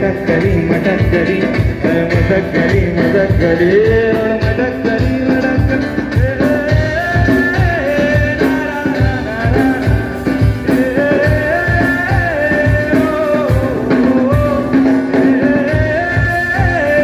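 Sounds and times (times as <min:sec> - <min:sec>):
acoustic guitar: 0:00.0 - 0:17.0
drum kit beat: 0:00.0 - 0:17.0
man singing: 0:00.0 - 0:17.0.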